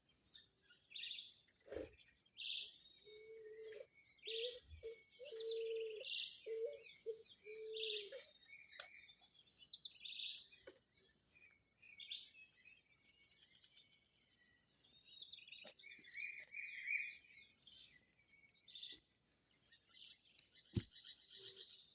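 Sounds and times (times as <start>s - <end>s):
birds chirping: 0.7s - 21.9s.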